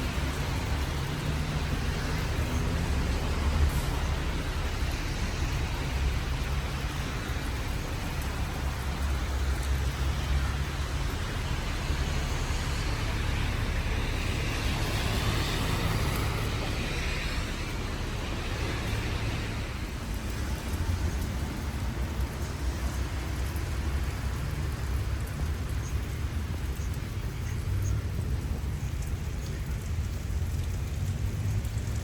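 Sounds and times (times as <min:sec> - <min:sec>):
falling rain: 0:00.0 - 0:32.0
road traffic: 0:00.0 - 0:32.0.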